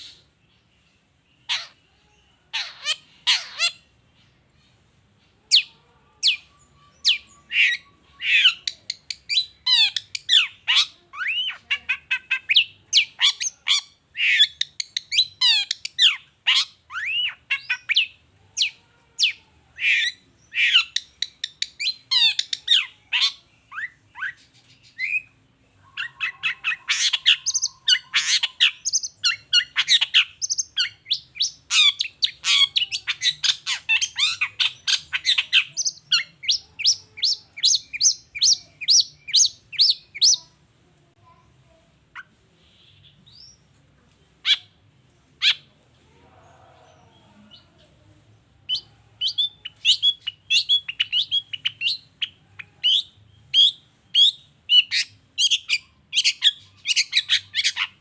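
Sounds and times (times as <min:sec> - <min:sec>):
bird chattering song: 0:00.0 - 0:40.6, 0:48.6 - 0:58.0.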